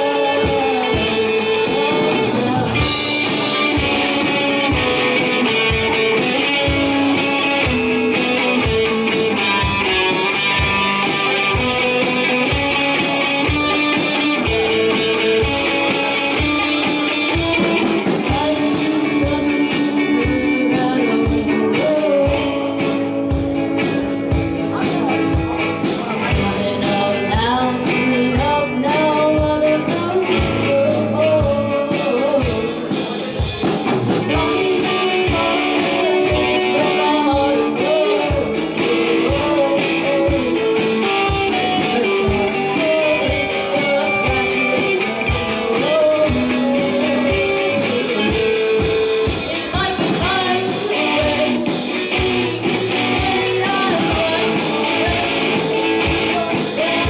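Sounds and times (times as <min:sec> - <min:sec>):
drum kit beat: 0:00.0 - 0:57.0
electric guitar: 0:00.0 - 0:57.0
person singing: 0:00.0 - 0:57.0.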